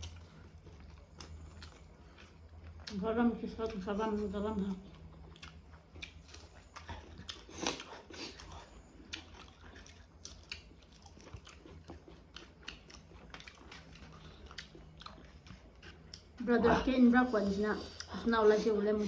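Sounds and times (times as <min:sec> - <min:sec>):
wet chewing with crunchy bites: 0:00.0 - 0:18.8.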